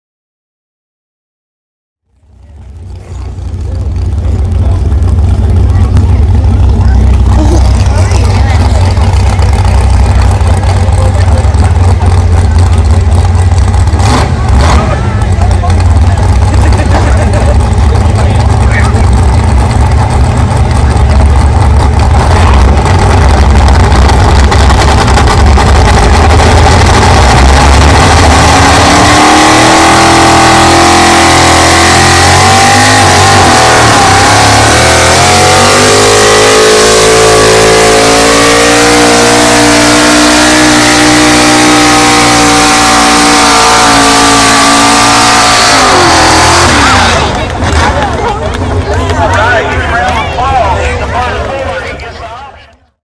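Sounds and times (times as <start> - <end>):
truck engine revving at full throttle: 2.1 - 52.6.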